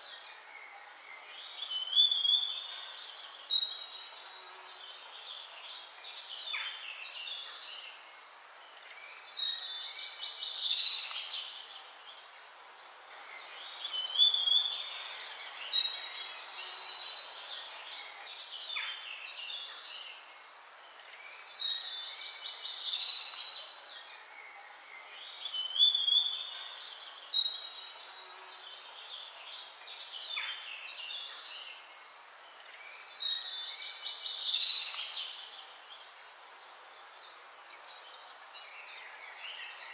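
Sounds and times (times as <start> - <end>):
songbirds singing and calling: 0.0 - 39.9
steady background hiss: 0.0 - 39.9.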